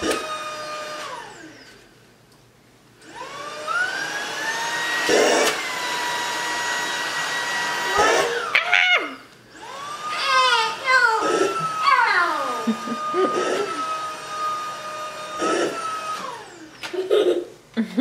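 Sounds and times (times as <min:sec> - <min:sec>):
vacuum motor whining: 0:00.0 - 0:01.9, 0:03.0 - 0:17.1.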